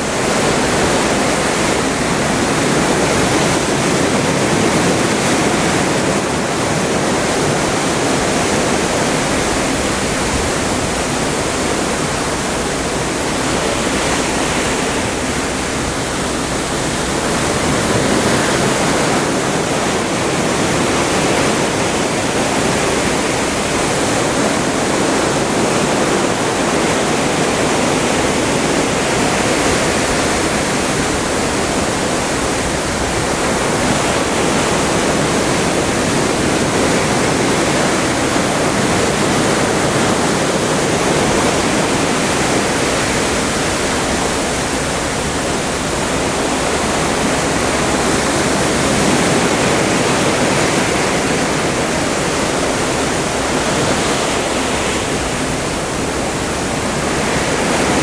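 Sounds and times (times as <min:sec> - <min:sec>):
seawater rushing past ship hull: 0:00.0 - 0:58.0.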